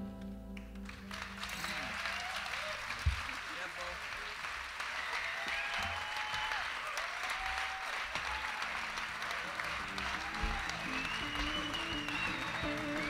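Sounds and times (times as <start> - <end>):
audience applauding: 0.6 - 13.0
voices cheering: 1.1 - 13.0.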